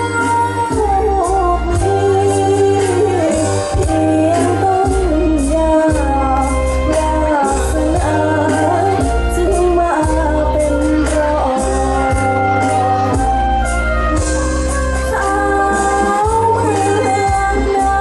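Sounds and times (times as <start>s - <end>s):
backing music with bass and beat: 0.0s - 18.0s
woman singing into microphone: 0.0s - 18.0s.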